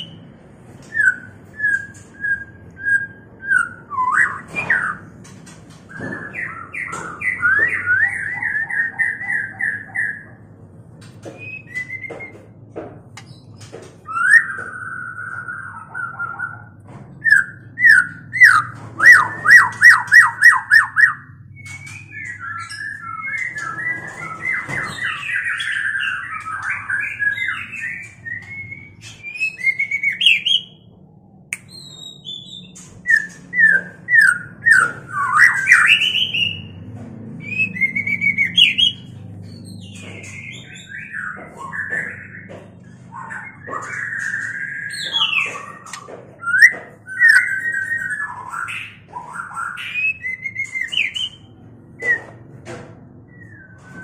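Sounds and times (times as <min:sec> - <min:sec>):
birds singing whistled phrases: 0:00.0 - 0:05.2, 0:05.9 - 0:10.4, 0:11.4 - 0:12.5, 0:13.2 - 0:30.9, 0:31.6 - 0:36.8, 0:37.4 - 0:52.5, 0:53.2 - 0:54.0
loud repeated bird notes: 0:00.0 - 0:54.0.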